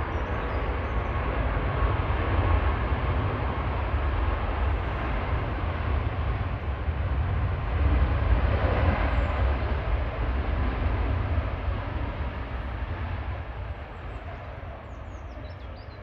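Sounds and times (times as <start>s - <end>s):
jet airliner passing: 0.0s - 16.0s.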